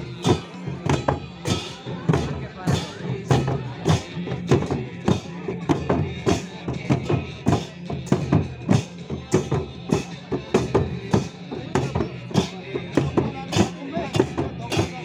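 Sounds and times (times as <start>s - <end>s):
barrel drums beating: 0.0s - 15.0s.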